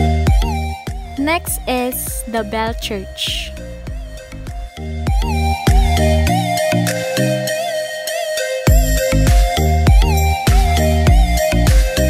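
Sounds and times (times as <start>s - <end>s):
electronic music with beat: 0.0s - 12.0s.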